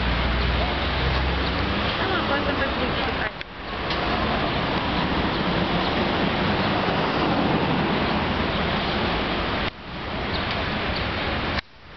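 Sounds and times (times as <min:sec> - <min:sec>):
steady rushing outdoor noise: 0:00.0 - 0:11.9.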